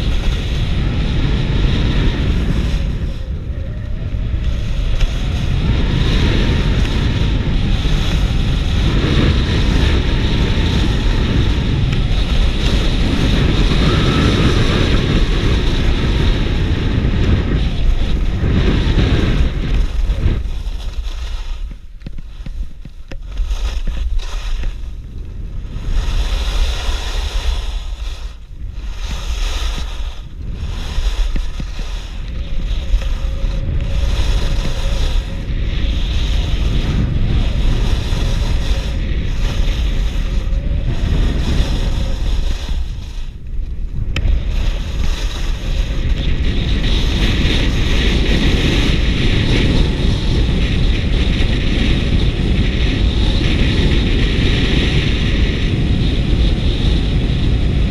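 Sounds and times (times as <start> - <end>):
skis scraping on packed snow: 0.0 - 57.9
wind rushing over microphone: 0.0 - 57.9.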